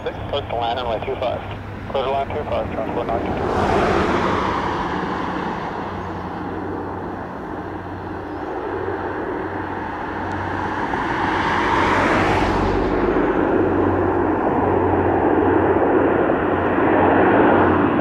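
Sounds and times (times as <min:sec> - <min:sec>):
turboprop aircraft drone: 0:00.0 - 0:18.0.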